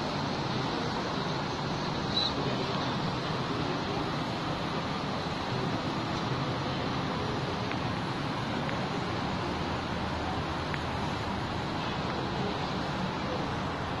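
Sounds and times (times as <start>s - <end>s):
distant road traffic hum: 0.0s - 14.0s.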